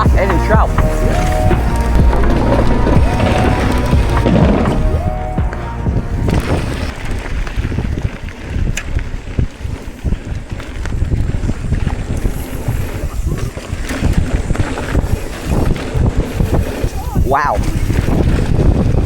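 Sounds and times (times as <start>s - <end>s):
bike rattles and knocks: 0.0s - 19.0s
wind buffeting microphone: 0.0s - 19.0s.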